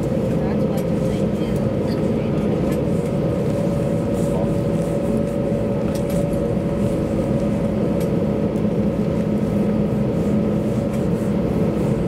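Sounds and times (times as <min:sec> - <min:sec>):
aircraft engines humming: 0:00.0 - 0:12.0
low cabin drone: 0:00.0 - 0:12.0.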